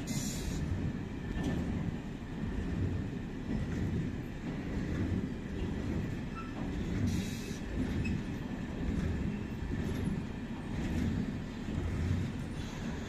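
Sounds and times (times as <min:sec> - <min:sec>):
freight wagons rolling on rails: 0:00.0 - 0:13.0.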